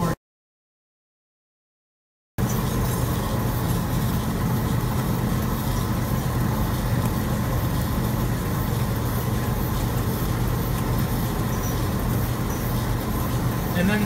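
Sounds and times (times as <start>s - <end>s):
milking system humming: 2.4s - 14.0s.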